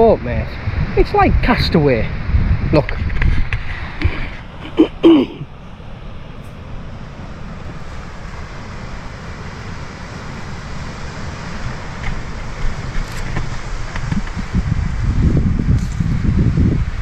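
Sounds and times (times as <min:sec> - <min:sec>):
surf washing on beach: 0:00.0 - 0:17.0
wind buffeting microphone: 0:00.0 - 0:17.0.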